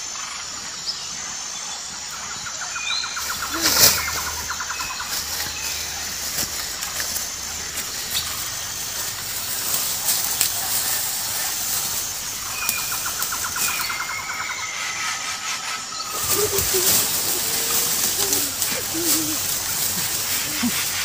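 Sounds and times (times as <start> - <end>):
steady high hiss: 0.0 - 21.0
birds calling: 2.7 - 21.0.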